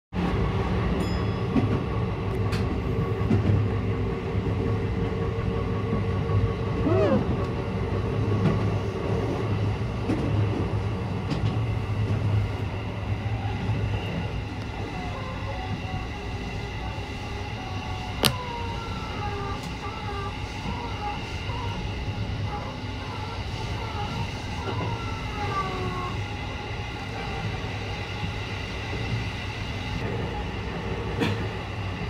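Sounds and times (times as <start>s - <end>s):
train rumbling inside carriage: 0.1s - 32.0s.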